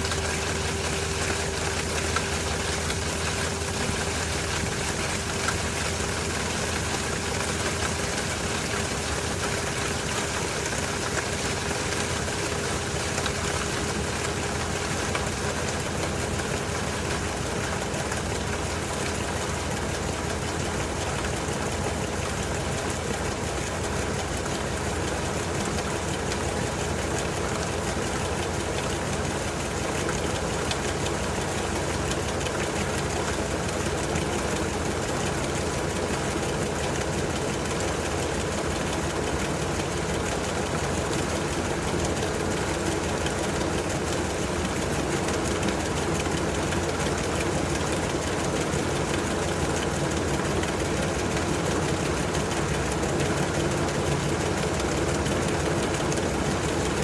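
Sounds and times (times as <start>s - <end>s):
washing machine hum: 0.0s - 57.0s.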